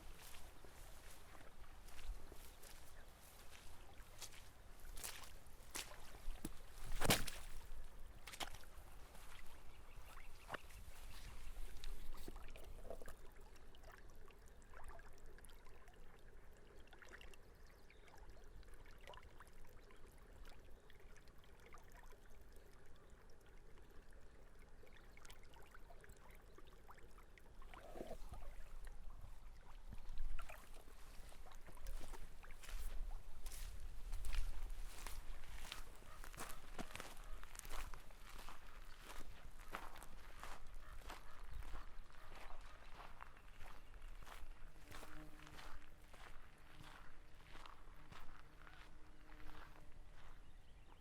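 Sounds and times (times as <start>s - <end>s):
stream trickling and gurgling: 0.0s - 51.0s
sharp water clicks: 0.2s - 44.5s.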